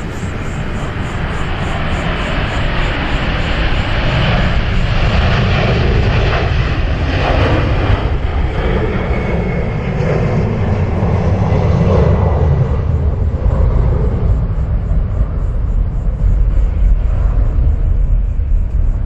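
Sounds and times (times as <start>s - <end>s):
airliner engines running: 0.0s - 19.0s
faint high whine: 0.0s - 19.0s.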